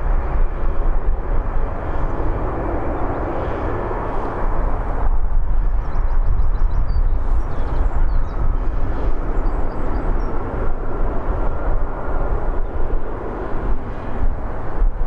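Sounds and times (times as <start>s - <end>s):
faint engine whine: 0.0s - 15.0s
jet engines deep rumble: 0.0s - 15.0s.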